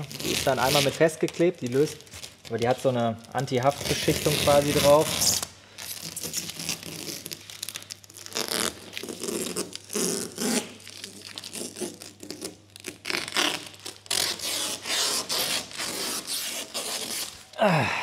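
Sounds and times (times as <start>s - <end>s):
film tearing: 0.0s - 17.5s
plastic film crinkling: 0.0s - 17.5s.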